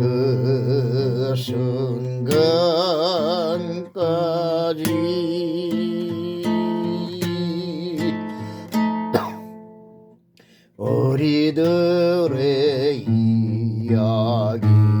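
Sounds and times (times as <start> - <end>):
man singing: 0.0 - 8.7, 10.8 - 15.0
acoustic guitar strumming: 0.0 - 15.0.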